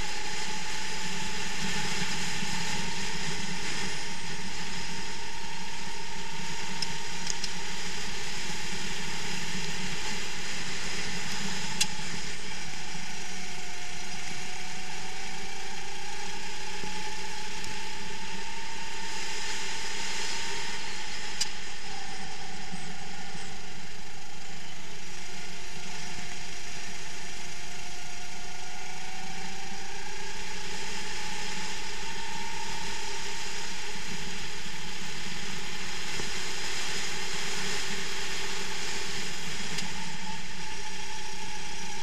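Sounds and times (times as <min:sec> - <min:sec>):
kart engine running: 0:00.0 - 0:42.0.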